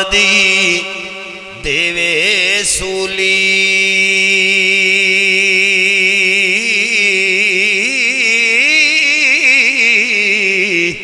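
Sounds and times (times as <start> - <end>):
man singing long note: 0.0 - 11.0.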